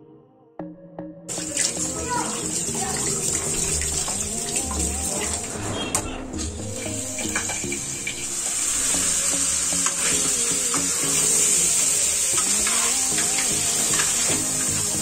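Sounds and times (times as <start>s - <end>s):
background music: 0.0s - 15.0s
crabs frying in oil: 1.3s - 5.4s, 6.7s - 15.0s.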